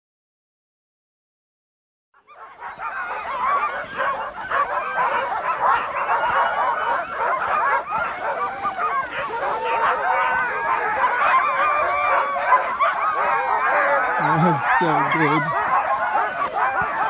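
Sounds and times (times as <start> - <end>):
dogs yelping and barking: 2.2 - 17.0.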